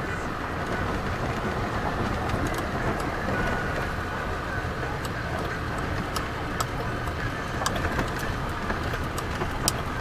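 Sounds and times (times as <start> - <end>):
tyres and engine rumbling: 0.0 - 10.0.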